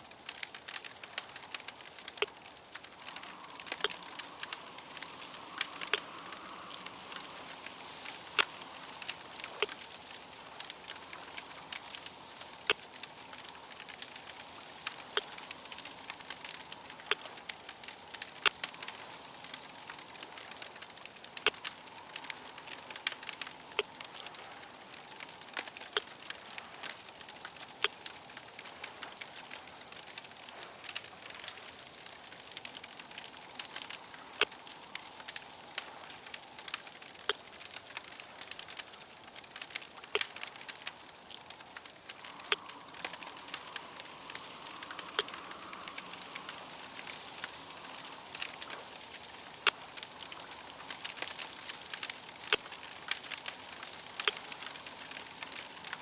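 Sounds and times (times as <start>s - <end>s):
fire crackling and popping: 0.0s - 56.0s
soft steady hiss: 0.0s - 56.0s.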